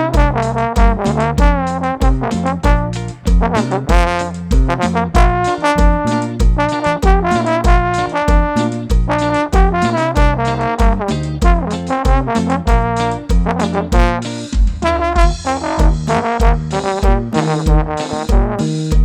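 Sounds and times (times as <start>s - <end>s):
bass drum beat: 0.0s - 19.0s
trombone melody: 0.0s - 19.0s.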